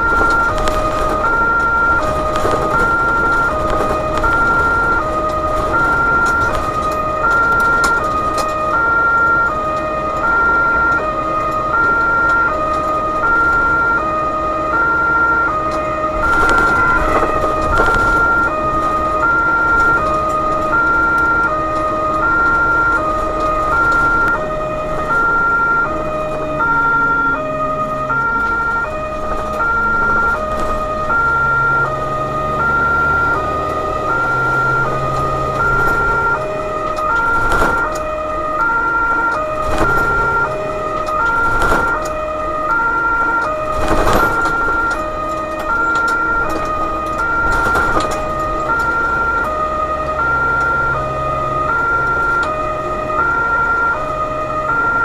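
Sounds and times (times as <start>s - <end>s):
two-tone emergency siren: 0.0s - 55.0s
vehicle engine and road noise: 0.0s - 55.0s.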